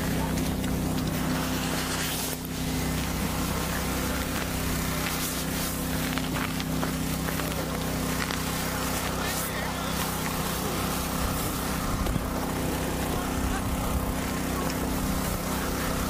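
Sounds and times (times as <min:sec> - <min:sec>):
constant hiss: 0:00.0 - 0:16.0
low mechanical hum: 0:00.0 - 0:16.0.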